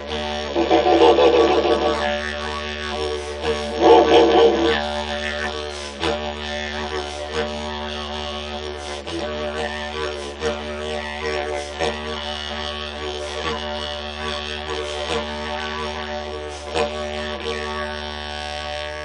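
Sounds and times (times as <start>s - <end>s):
didgeridoo drone: 0.0s - 19.0s.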